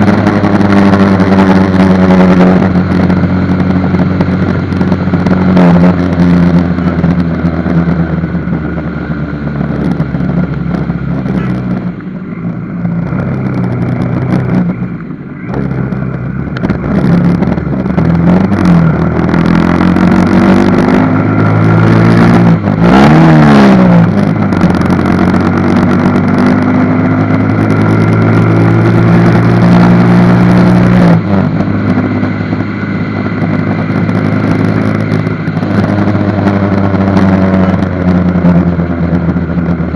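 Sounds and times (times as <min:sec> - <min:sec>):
road vehicle engines running: 0:00.0 - 0:39.9.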